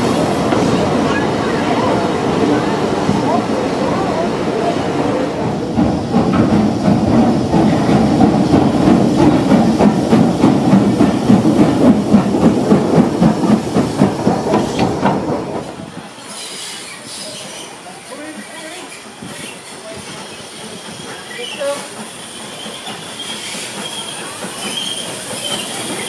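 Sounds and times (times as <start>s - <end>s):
steam hissing: 0.0s - 26.0s
steam locomotive running past: 0.0s - 26.0s.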